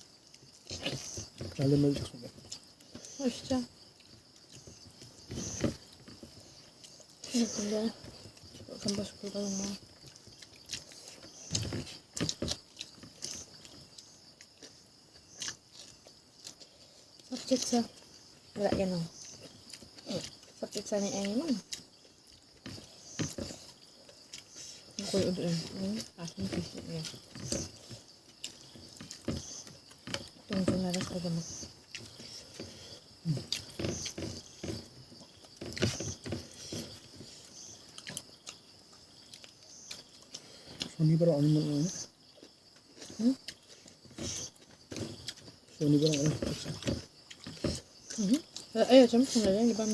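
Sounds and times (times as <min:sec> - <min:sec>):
person chewing food: 0:00.0 - 0:03.2, 0:03.8 - 0:07.3, 0:08.0 - 0:09.0, 0:09.6 - 0:18.5, 0:19.2 - 0:20.6, 0:21.6 - 0:25.0, 0:25.6 - 0:41.0, 0:42.1 - 0:48.7.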